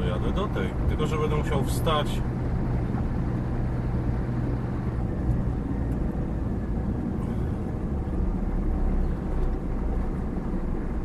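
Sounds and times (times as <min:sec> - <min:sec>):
road noise: 0:00.0 - 0:11.0
truck diesel engine rumble: 0:00.0 - 0:11.0.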